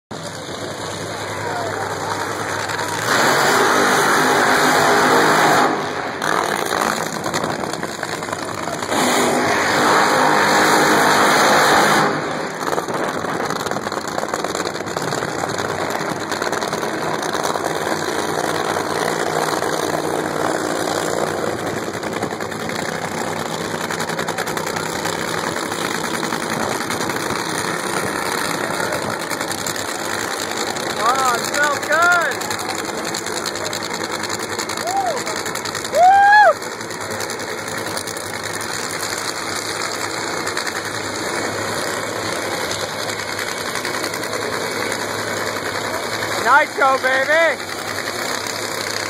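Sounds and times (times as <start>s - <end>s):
dragster engines revving: 0.1s - 49.0s
engines running roughly: 0.1s - 49.0s.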